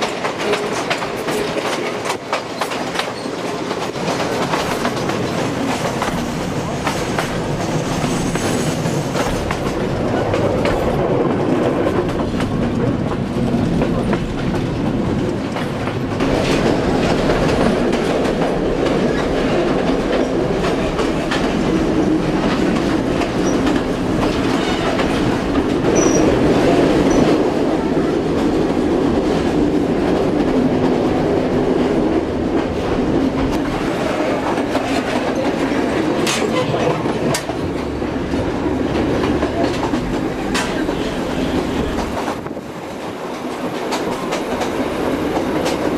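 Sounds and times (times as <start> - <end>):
train rumbling: 0.0 - 45.9
wheels clacking over rail joints: 0.0 - 45.9.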